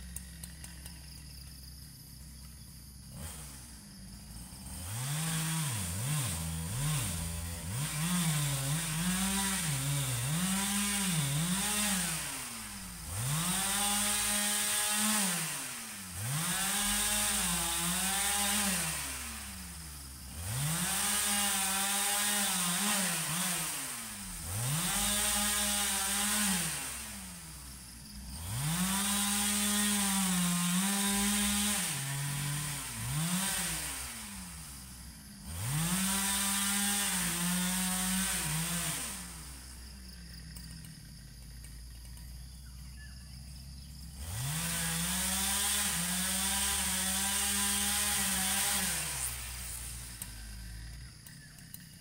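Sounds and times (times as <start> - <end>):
chainsaw cutting logs: 0.0 - 52.0.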